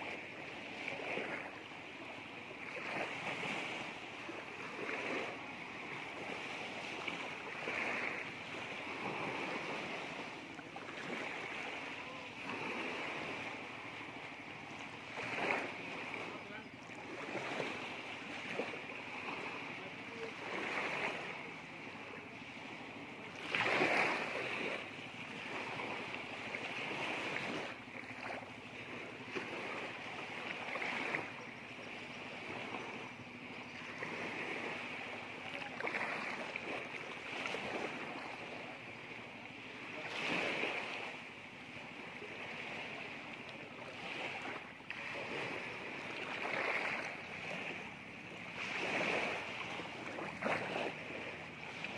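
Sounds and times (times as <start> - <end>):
small waves lapping on beach: 0.0 - 51.9.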